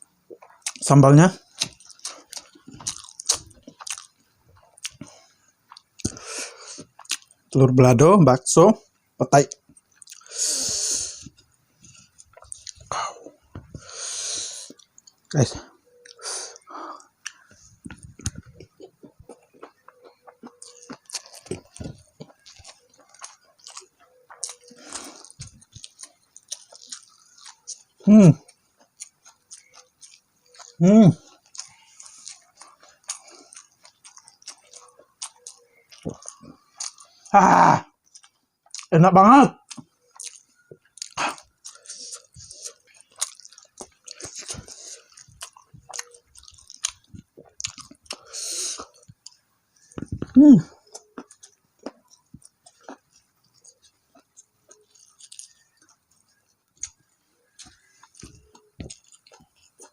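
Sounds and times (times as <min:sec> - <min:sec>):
chewing food: 0:00.0 - 0:07.6, 0:09.4 - 0:38.9, 0:39.5 - 0:59.9
mouth clicks and smacks: 0:00.3 - 0:07.4, 0:09.4 - 0:37.4, 0:38.0 - 0:39.0, 0:39.6 - 0:59.9.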